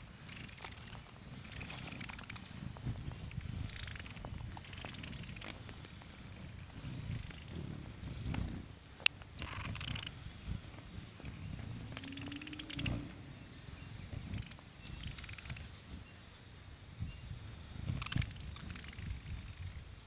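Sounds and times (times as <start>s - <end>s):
hummingbird wings humming: 0.0s - 20.0s.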